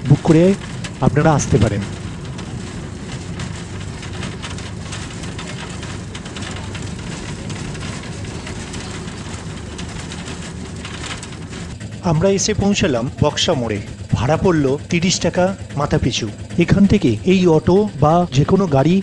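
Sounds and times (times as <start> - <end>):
bus engine drone: 0.0 - 19.0
road and rattle noise: 0.0 - 19.0.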